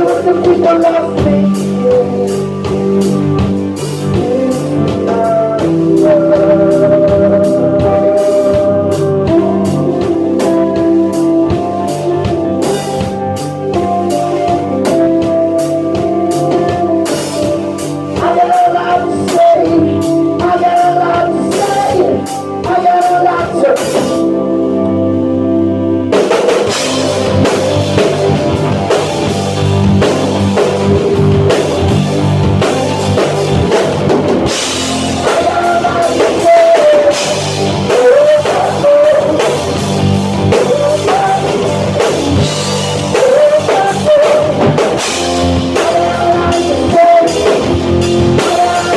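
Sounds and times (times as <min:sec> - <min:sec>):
drum kit: 0:00.0 - 0:25.2, 0:26.0 - 0:48.9
person singing: 0:00.0 - 0:48.9
rock band playing live: 0:00.0 - 0:48.9.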